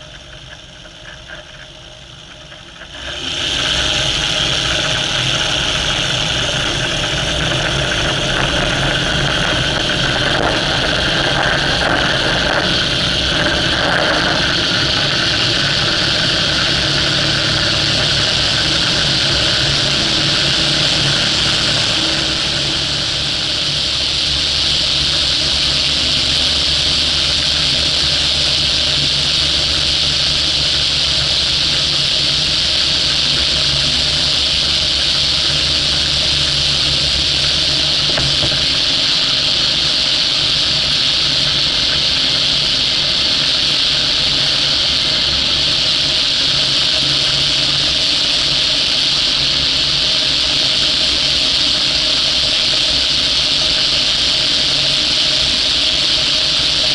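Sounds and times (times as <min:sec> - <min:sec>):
light aircraft engine and propeller: 0:00.0 - 0:56.9
rushing hiss: 0:02.9 - 0:56.9.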